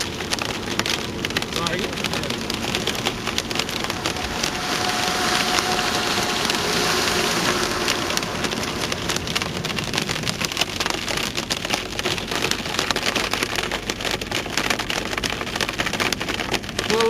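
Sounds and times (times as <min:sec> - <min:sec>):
hail hitting hard surface: 0:00.0 - 0:17.0
heavy rain hissing: 0:00.0 - 0:17.0.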